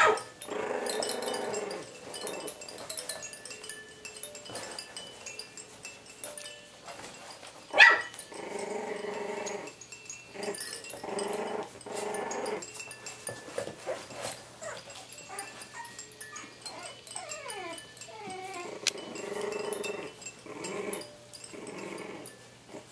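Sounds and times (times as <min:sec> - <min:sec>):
puppies growling: 0:00.0 - 0:05.5, 0:08.0 - 0:22.9
puppy whining: 0:00.0 - 0:05.6, 0:07.7 - 0:22.9.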